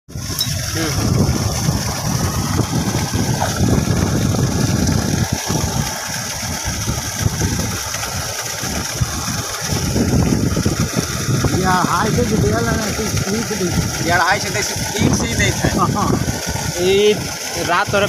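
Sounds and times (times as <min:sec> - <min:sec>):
water gushing and splashing: 0:00.1 - 0:18.0.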